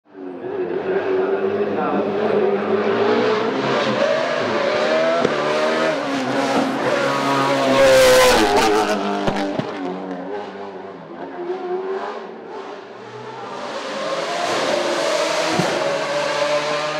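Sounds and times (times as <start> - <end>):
racing car engine at high revs: 0.1 - 16.9.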